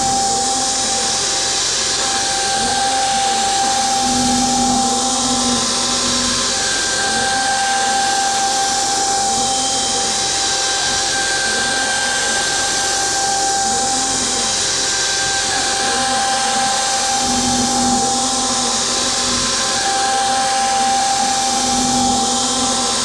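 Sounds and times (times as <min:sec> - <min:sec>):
router spindle whine: 0:00.0 - 0:23.0.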